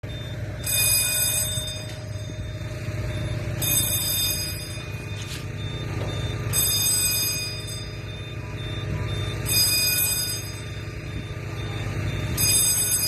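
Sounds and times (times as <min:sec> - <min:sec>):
fire alarm ringing: 0:00.0 - 0:13.0
steady low hum: 0:00.0 - 0:13.0.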